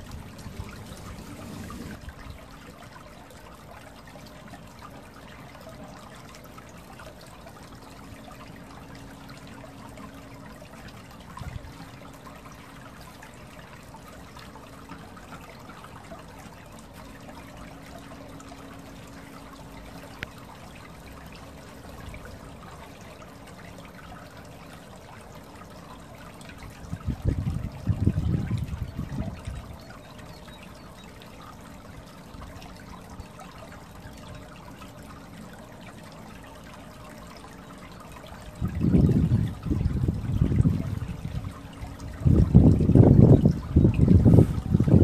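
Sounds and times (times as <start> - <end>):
water trickling: 0.0 - 45.0.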